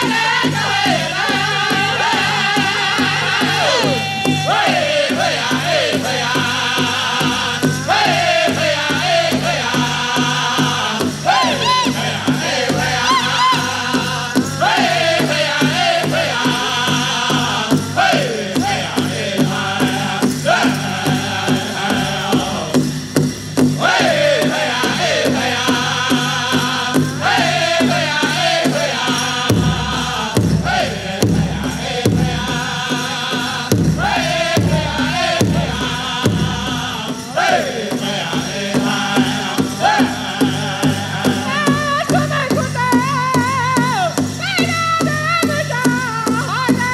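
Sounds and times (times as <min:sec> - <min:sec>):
chorus of voices chanting: 0:00.0 - 0:42.8
steady beat on large drum: 0:00.0 - 0:46.9.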